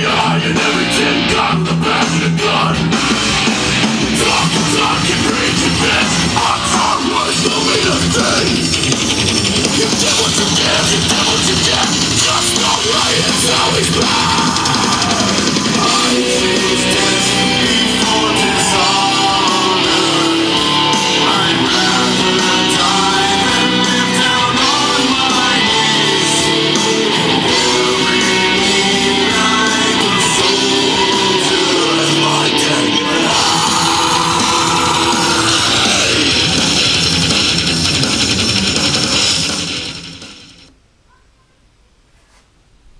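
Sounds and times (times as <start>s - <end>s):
heavy rock music: 0.0s - 40.7s.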